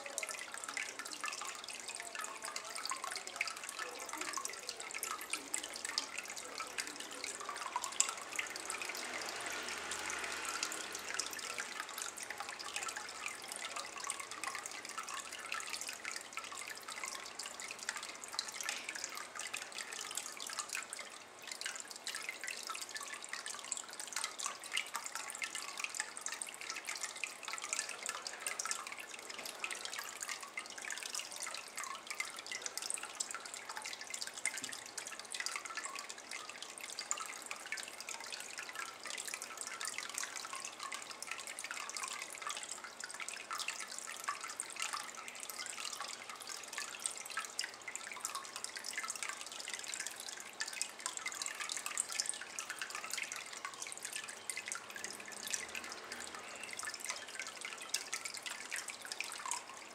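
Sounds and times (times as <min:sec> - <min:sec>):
water trickling into bowl: 0:00.0 - 0:59.9.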